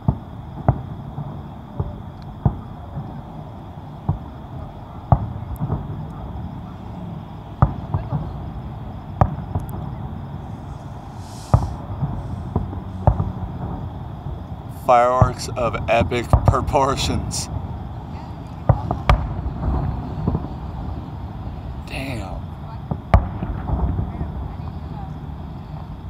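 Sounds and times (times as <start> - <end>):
fireworks booming: 0.0 - 26.0
low background noise: 0.0 - 26.0.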